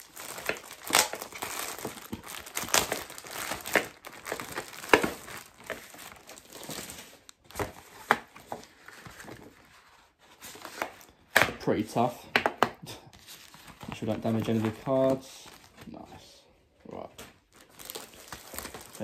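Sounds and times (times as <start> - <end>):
plastic wrap crinkling: 0.0 - 11.1, 13.1 - 16.2, 17.0 - 19.0.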